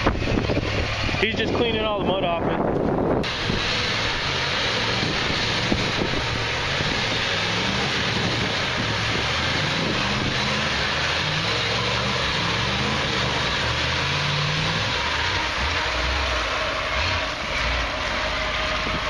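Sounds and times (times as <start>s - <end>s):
diesel truck engine revving: 0.0s - 19.0s.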